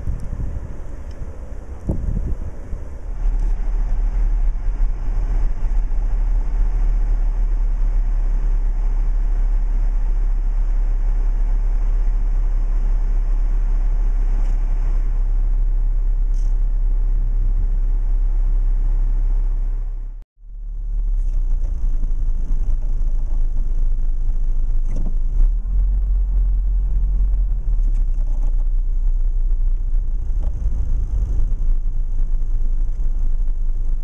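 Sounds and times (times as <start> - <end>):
wind buffeting microphone: 0.0 - 17.6, 21.1 - 34.0.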